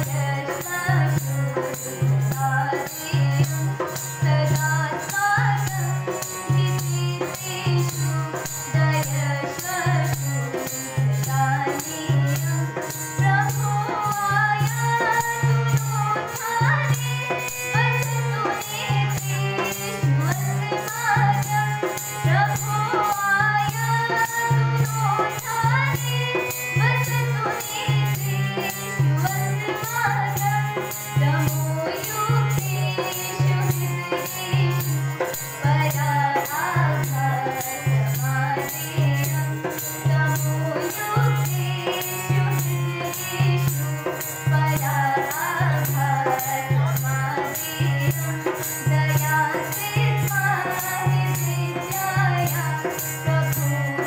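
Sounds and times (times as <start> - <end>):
harmonium: 0.0 - 54.0
tambourine jingles: 0.0 - 54.0
young woman singing: 0.0 - 54.0.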